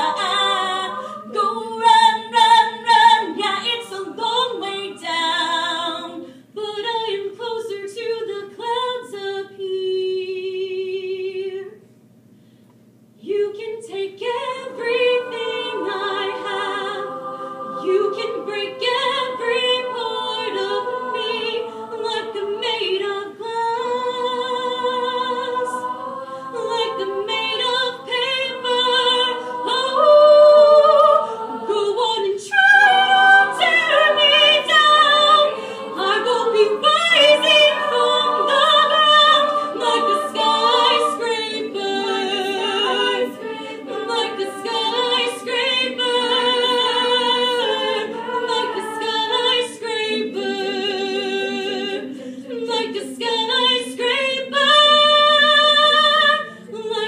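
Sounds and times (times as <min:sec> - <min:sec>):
women singing a cappella harmony: 0:00.0 - 0:11.8, 0:13.2 - 0:57.0.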